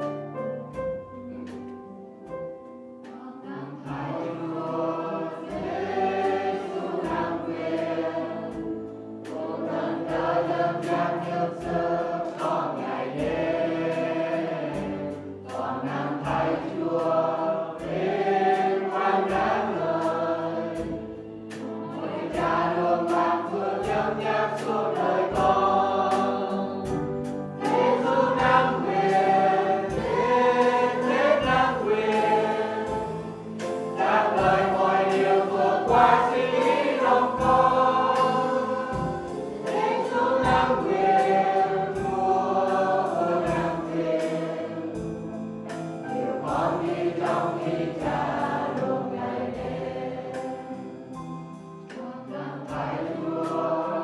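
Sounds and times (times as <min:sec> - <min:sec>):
instrumental accompaniment: 0:00.0 - 0:54.0
voices singing a hymn: 0:00.0 - 0:54.0.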